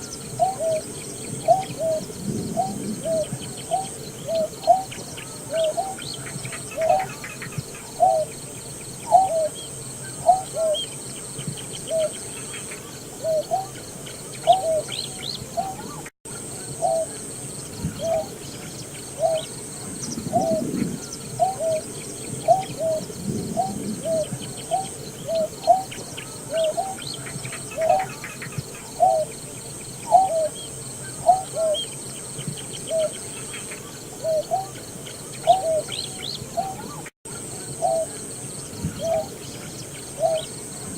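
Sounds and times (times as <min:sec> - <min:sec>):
bird hooting calls: 0:00.0 - 0:29.4, 0:30.0 - 0:40.9.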